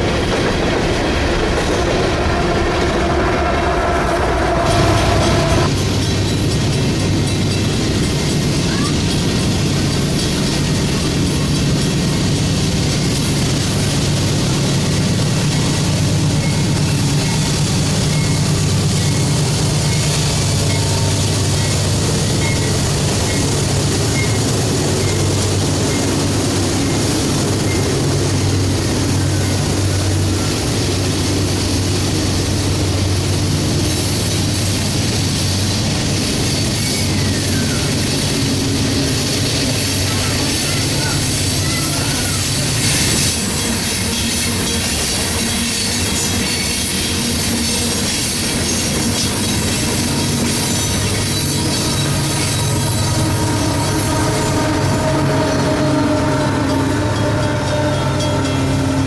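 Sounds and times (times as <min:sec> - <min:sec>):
train wheels rattling on rail: 0:00.0 - 0:59.0.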